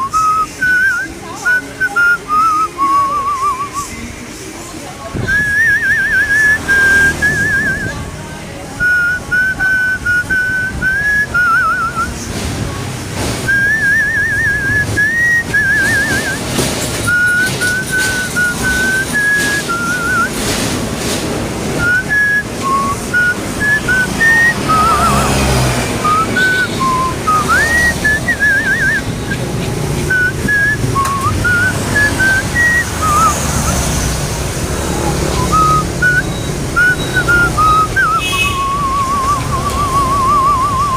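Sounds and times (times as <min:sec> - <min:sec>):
person whistling a melody: 0:00.0 - 0:04.1, 0:05.2 - 0:08.1, 0:08.8 - 0:12.3, 0:13.2 - 0:20.7, 0:21.8 - 0:40.9.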